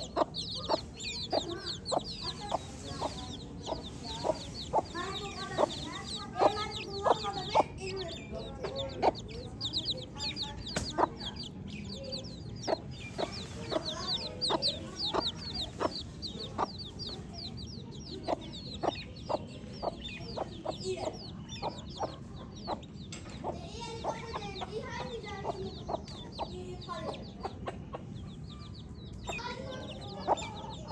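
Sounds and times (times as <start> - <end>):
baby chicks chirping: 0.0 - 30.9.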